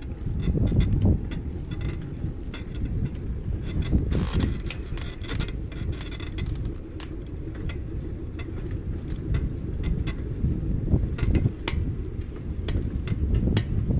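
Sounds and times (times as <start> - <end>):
small rattles and clicks: 0.0 - 13.9
wind rumbling on microphone: 0.0 - 13.9.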